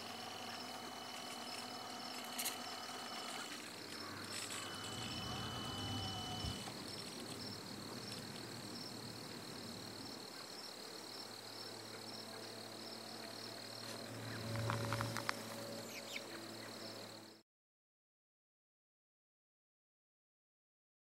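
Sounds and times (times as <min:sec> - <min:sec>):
insects trilling: 0:00.0 - 0:17.4.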